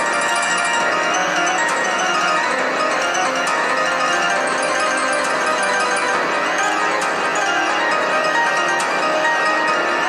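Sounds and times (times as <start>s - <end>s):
electronic background music: 0.0s - 10.0s.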